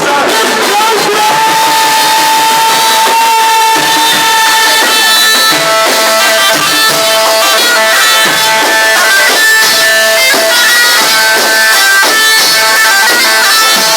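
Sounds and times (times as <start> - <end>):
live band music with drums: 0.0 - 13.9.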